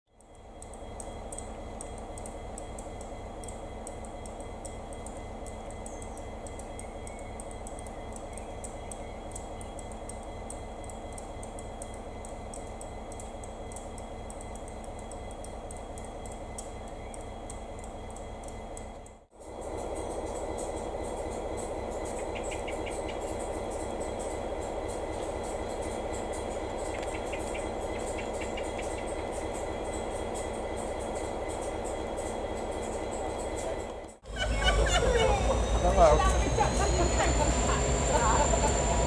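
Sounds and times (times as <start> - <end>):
diesel locomotive engine rumbling: 0.1 - 39.0
light high ticks: 0.2 - 19.2, 19.9 - 34.2.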